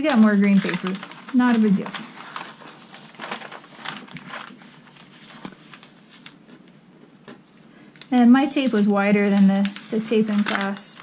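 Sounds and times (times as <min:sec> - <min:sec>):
tape and paper peeling rustling: 0:00.0 - 0:11.0.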